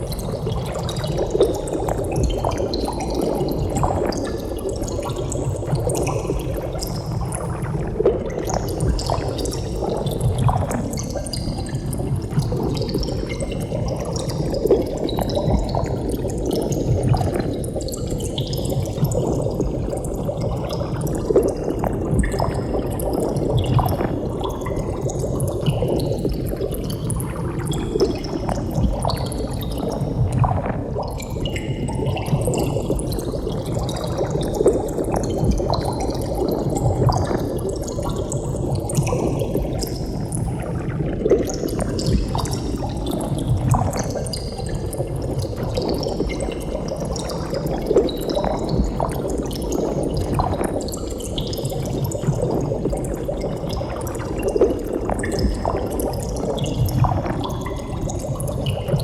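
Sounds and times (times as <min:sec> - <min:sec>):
water bubbling and gurgling: 0:00.0 - 0:59.0.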